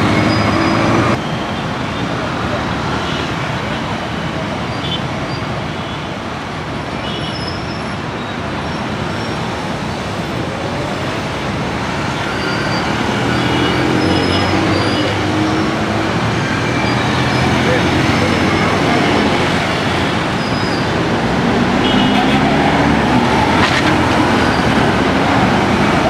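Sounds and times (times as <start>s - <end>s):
road traffic passing: 0.0s - 6.9s, 7.9s - 26.0s.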